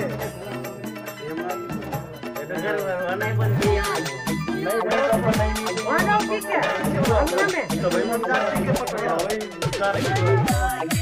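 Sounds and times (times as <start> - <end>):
music with percussion beat: 0.0 - 11.0.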